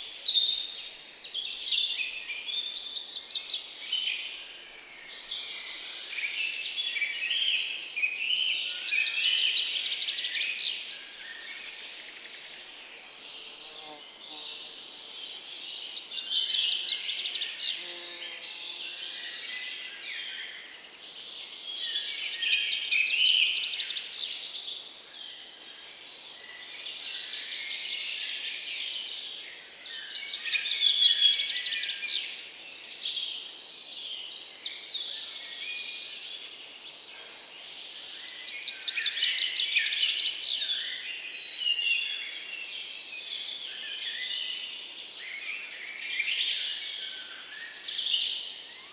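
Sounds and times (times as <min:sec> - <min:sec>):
songbirds chirping and trilling: 0:00.0 - 0:48.9.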